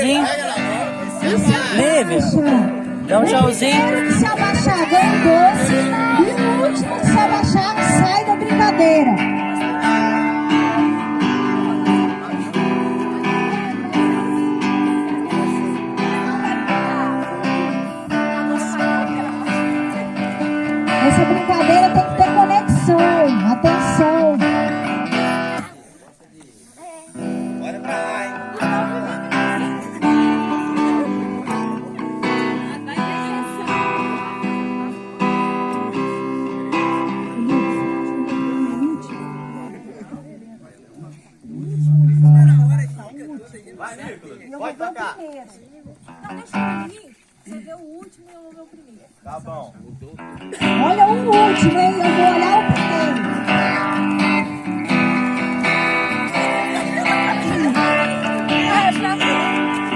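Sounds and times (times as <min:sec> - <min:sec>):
strummed acoustic guitar music: 0:00.0 - 0:25.8, 0:27.0 - 0:40.2, 0:40.9 - 0:43.3, 0:46.0 - 0:47.2, 0:50.0 - 0:59.9.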